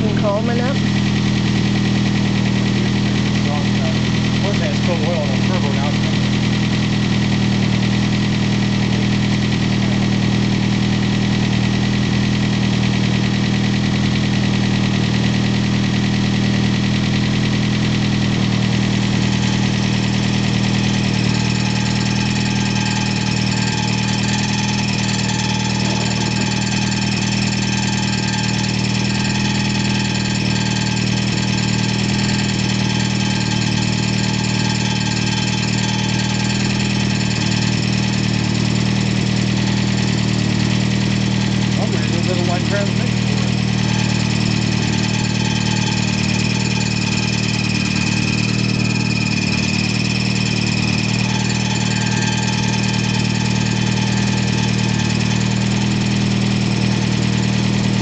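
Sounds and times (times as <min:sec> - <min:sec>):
car engine idling with rattle: 0:00.0 - 0:58.0
high steady whine: 0:00.0 - 0:58.0.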